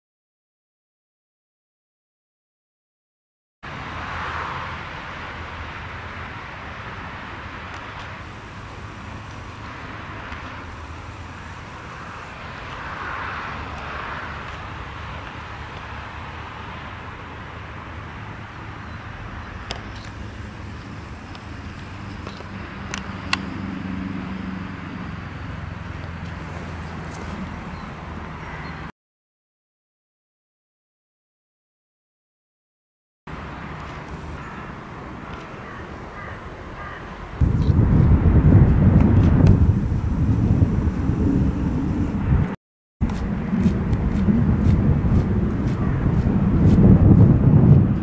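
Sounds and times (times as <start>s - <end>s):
distant road traffic rumble: 3.7s - 28.9s, 33.3s - 48.0s.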